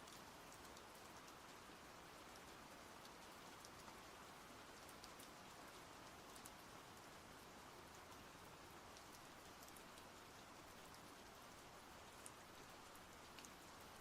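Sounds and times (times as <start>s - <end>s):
light rain hissing: 0.0s - 14.0s
raindrops ticking: 0.0s - 14.0s.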